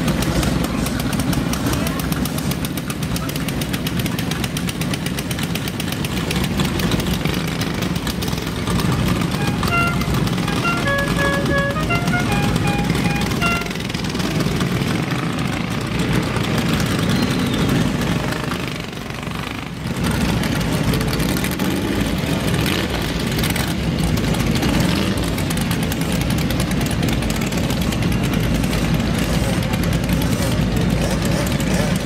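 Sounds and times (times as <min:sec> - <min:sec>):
hot rod engines idling: 0:00.0 - 0:32.0
small dirt bikes passing: 0:00.0 - 0:32.0.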